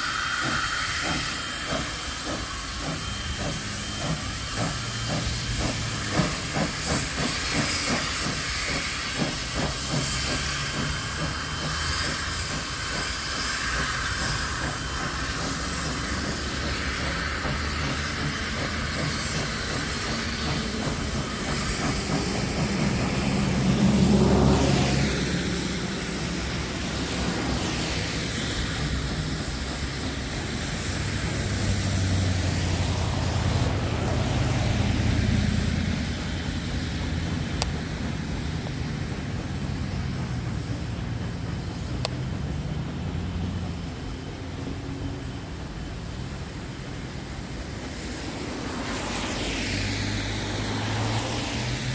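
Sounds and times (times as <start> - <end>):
locomotive chuffing beats: 0.0 - 51.9
steam locomotive hissing: 0.0 - 51.9.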